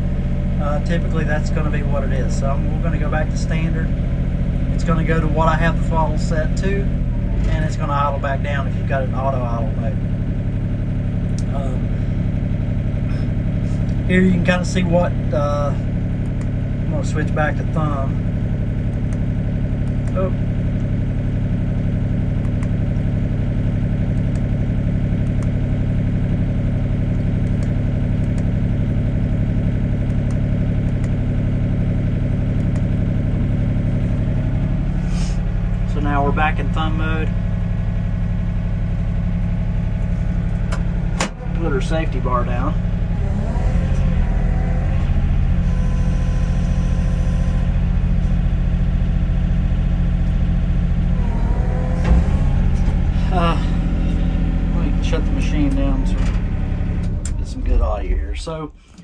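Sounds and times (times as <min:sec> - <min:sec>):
excavator diesel engine idling: 0:00.0 - 0:59.0.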